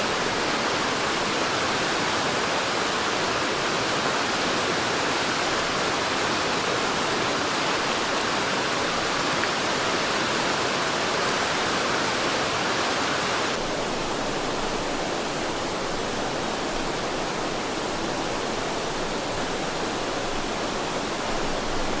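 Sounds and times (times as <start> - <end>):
river rushing: 0.0 - 22.0.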